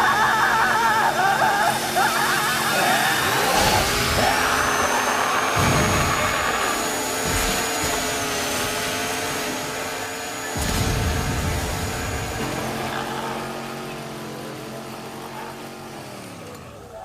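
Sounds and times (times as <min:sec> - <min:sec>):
chainsaw engines revving: 0:00.0 - 0:17.0.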